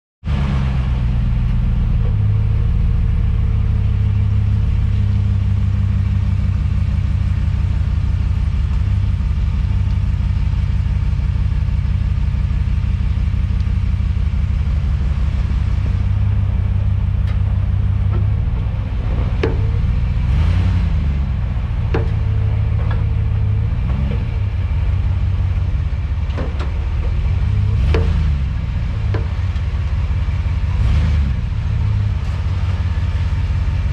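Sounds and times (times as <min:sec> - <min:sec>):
truck low rumble: 0:00.2 - 0:33.9.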